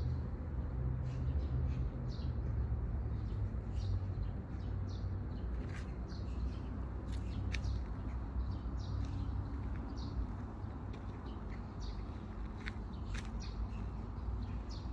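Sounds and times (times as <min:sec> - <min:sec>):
birds chirping: 0:01.1 - 0:14.9.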